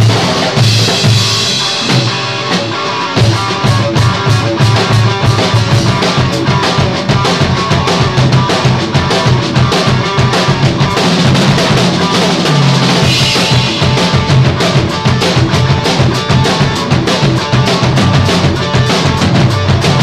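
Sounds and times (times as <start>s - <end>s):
busy drumming: 0.0s - 20.0s
electric guitar riffing: 0.0s - 20.0s.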